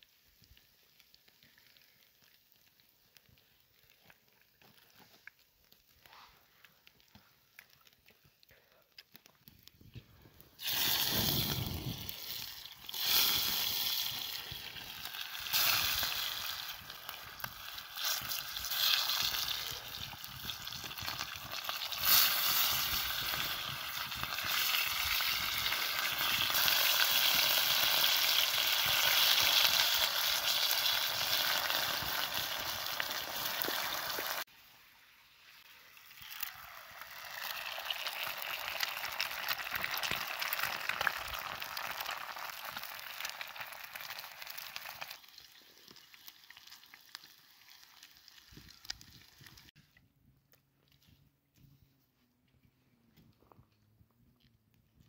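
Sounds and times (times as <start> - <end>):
potatoes sizzling in oil: 0.0 - 6.2, 10.4 - 49.7
egg frying: 0.0 - 8.4, 9.0 - 49.8.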